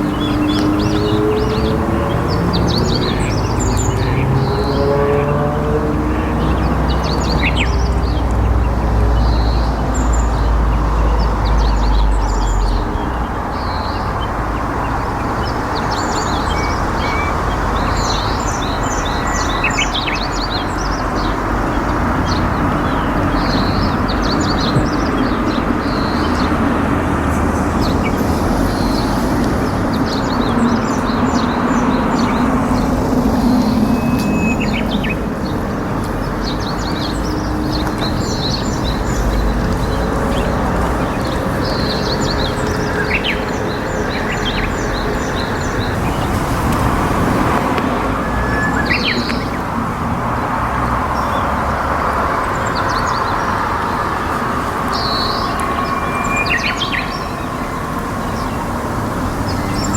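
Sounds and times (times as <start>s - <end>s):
flowing river water: 0.0s - 59.9s
small birds chirping: 0.0s - 59.9s.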